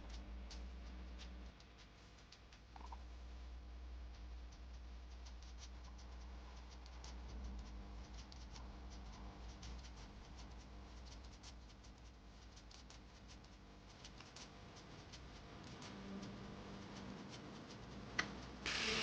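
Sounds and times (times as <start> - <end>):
light clicks and scratches: 0.0 - 3.2, 3.9 - 19.0
steady low hum: 0.0 - 19.0.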